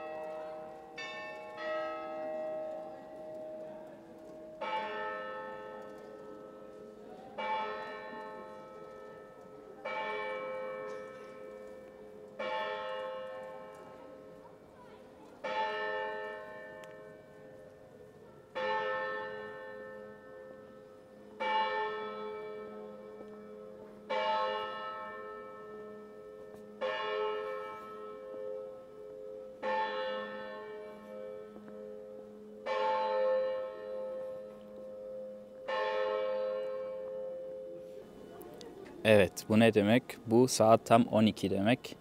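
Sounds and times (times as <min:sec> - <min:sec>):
church bell striking: 0:00.0 - 0:14.6, 0:15.4 - 0:38.3.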